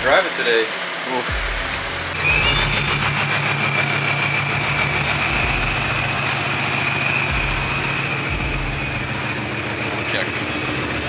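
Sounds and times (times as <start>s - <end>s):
car engine idling: 0.0s - 11.0s
supercharger whine: 0.0s - 11.0s.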